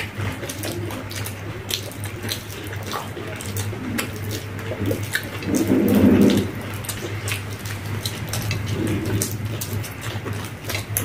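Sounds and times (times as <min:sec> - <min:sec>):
steady low hum: 0:00.0 - 0:11.0
wet chewing and smacking: 0:00.0 - 0:11.0.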